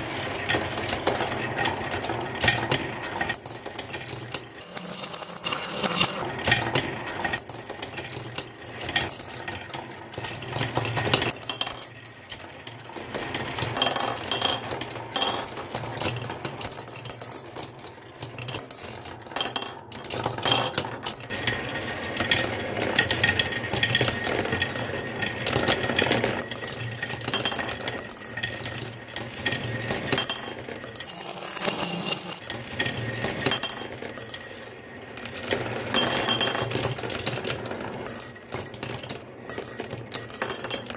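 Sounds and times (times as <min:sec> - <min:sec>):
marbles rolling down wooden track: 0:00.5 - 0:40.9.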